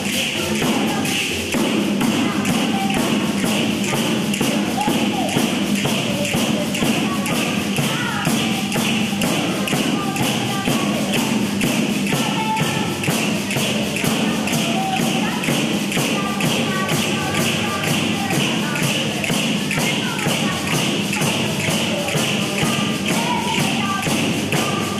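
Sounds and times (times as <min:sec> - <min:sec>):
frame drums with jingles: 0:00.0 - 0:24.9.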